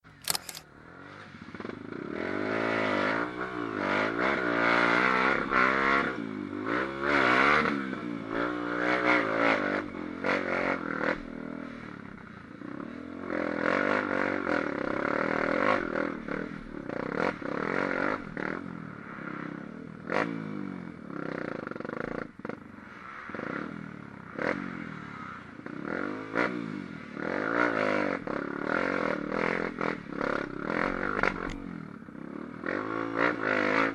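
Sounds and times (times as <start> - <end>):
engine revving: 0.2 - 12.0, 12.6 - 33.9.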